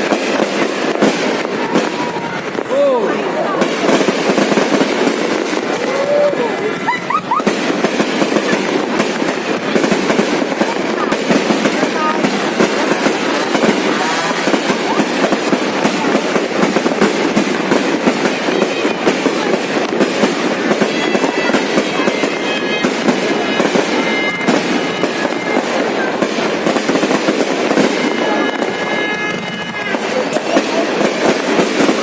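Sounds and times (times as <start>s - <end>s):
fireworks bangs and crackles: 0.0s - 32.0s
high whistling fireworks: 0.0s - 32.0s.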